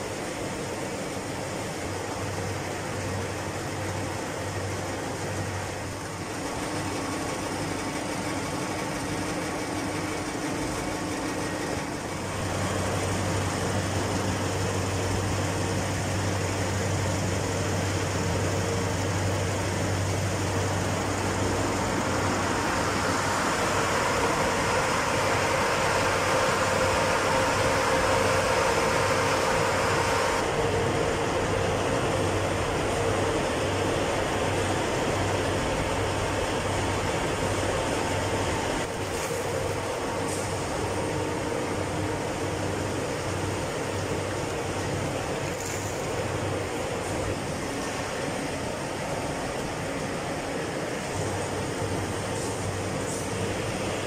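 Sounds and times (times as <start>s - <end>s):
machinery hum and whir: 0.0s - 54.0s.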